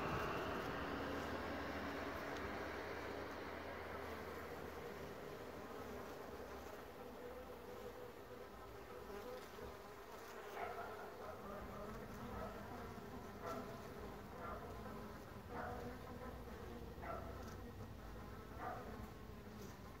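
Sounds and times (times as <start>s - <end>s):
bee flying past buzzing: 0.0s - 20.0s
bees humming at hive: 0.0s - 20.0s.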